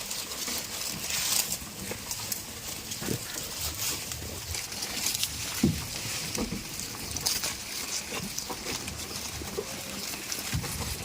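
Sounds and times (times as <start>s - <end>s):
goats calling: 0.0s - 11.0s.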